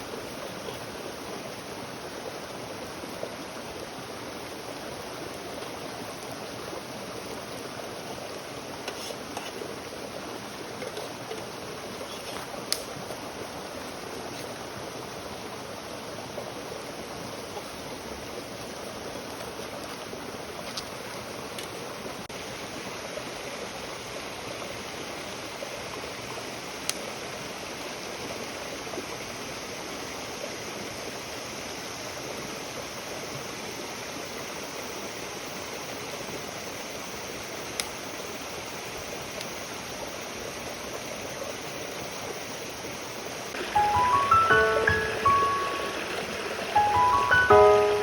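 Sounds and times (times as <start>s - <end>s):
campfire burning with hiss: 0.0s - 48.0s.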